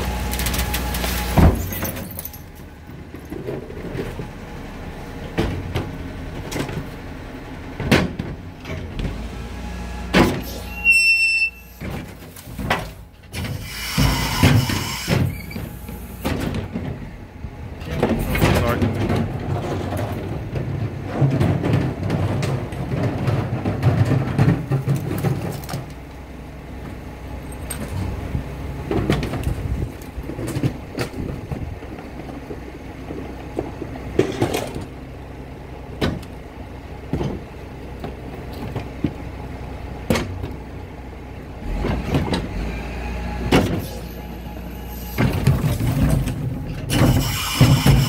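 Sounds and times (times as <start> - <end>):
garbage truck engine and compactor: 0.0 - 48.0.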